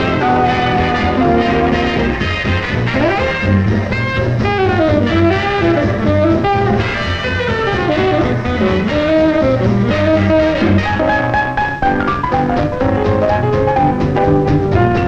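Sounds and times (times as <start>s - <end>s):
swing dance band playing: 0.0s - 15.0s.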